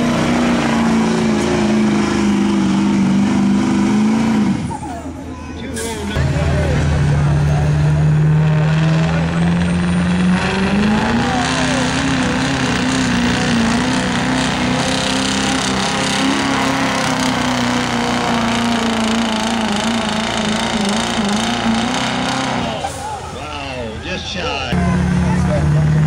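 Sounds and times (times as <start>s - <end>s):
diesel truck engine revving: 0.0s - 26.0s.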